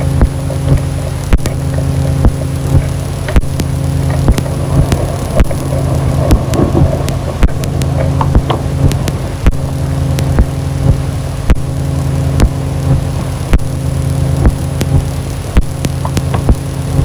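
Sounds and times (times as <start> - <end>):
low droning hum: 0.0 - 17.0
sharp crackling clicks: 0.0 - 17.0.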